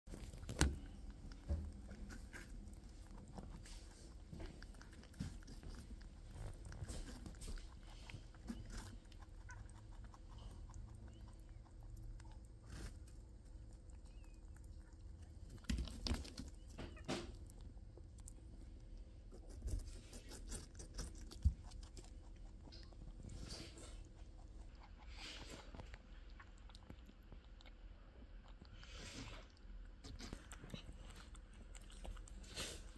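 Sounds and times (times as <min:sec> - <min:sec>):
rabbit chewing watermelon: 0:00.0 - 0:32.9.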